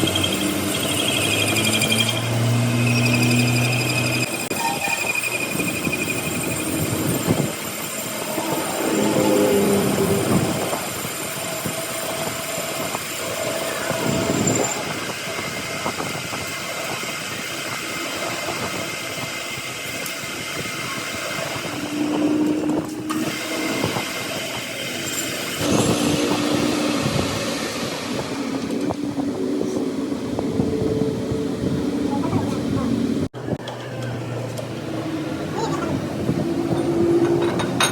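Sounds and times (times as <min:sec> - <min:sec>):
heavy machinery rumbling and rattling: 0:00.0 - 0:37.9.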